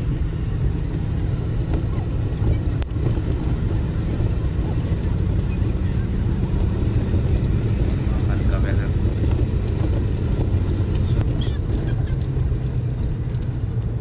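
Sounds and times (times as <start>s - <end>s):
car engine rumble: 0.0s - 14.0s
road noise inside car: 0.0s - 14.0s.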